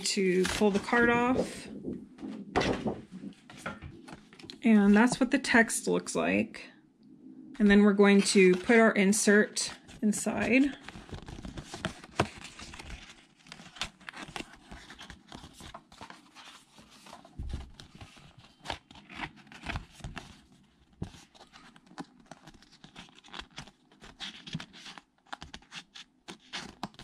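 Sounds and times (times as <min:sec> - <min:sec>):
cardstock rustling and scraping: 0:00.0 - 0:05.2, 0:08.1 - 0:08.8, 0:09.7 - 0:20.4, 0:21.0 - 0:27.0.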